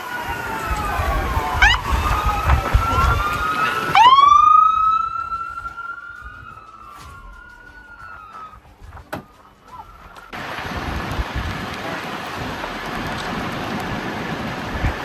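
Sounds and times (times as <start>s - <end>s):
emergency vehicle siren: 0.0s - 15.0s
loud steady rushing noise: 0.0s - 15.0s.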